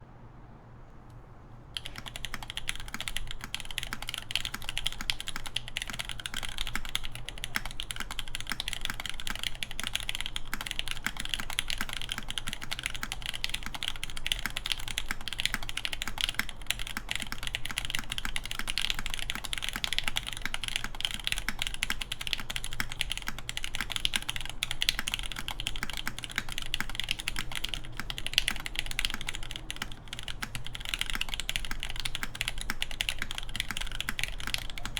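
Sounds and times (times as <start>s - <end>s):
fast mechanical keyboard typing: 1.8s - 34.9s.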